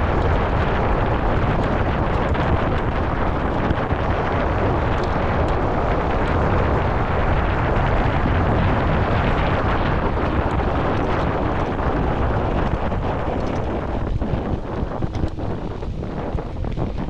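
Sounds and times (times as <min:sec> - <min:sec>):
bike rattling: 0:00.0 - 0:17.0
bike tyre roar: 0:00.0 - 0:17.0
wind rushing over microphone: 0:00.0 - 0:17.0.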